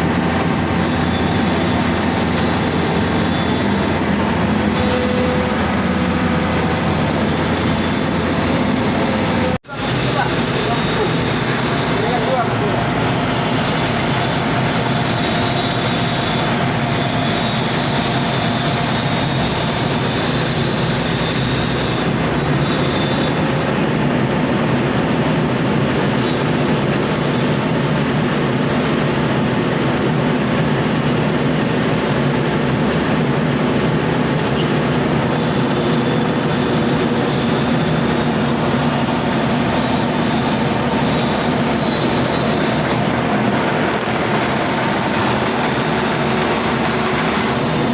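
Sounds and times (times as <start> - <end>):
diesel engine under load: 0.0 - 47.9
high hydraulic whine: 0.0 - 47.9.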